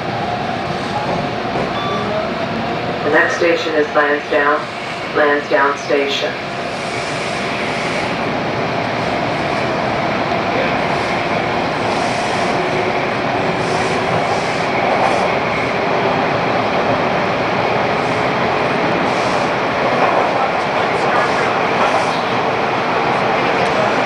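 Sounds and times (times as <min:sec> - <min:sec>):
subway car rumbling through tunnel: 0:00.0 - 0:24.0.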